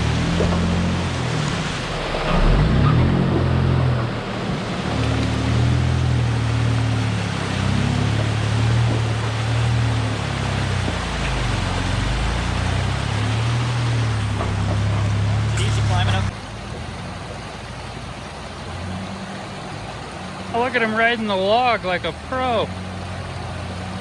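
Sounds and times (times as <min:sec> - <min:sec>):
truck engine running at low revs: 0:00.0 - 0:24.0.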